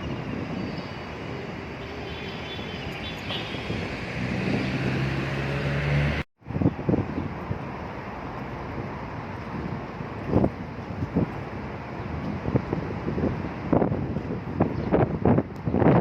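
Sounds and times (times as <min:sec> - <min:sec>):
wind buffeting microphone: 0:00.0 - 0:05.4, 0:06.4 - 0:16.0
traffic hum: 0:00.0 - 0:16.0.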